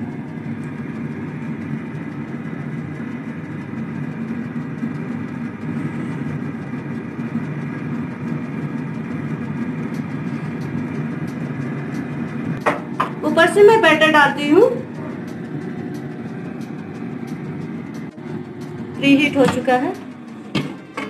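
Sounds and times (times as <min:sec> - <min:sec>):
air fryer fan humming: 0:00.0 - 0:21.0.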